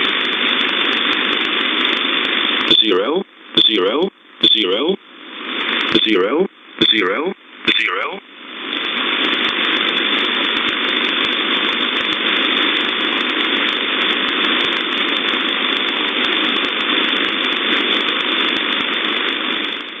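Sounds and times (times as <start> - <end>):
shortwave radio hiss: 0.0 - 17.8
static crackles: 0.0 - 20.0.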